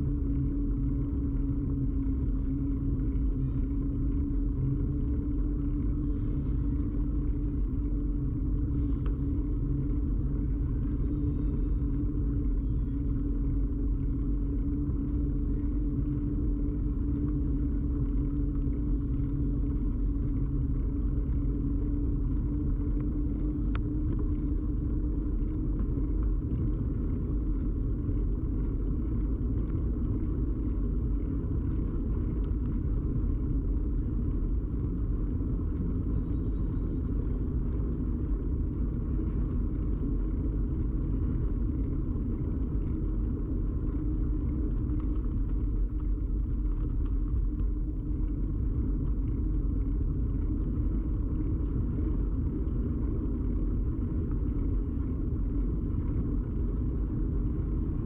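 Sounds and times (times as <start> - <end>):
bicycle tyres rolling on road: 0.0 - 58.0
low hum: 0.0 - 58.0.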